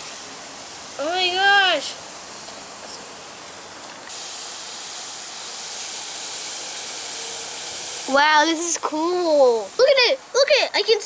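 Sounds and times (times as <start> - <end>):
fizzing hiss in water: 0.0 - 11.0.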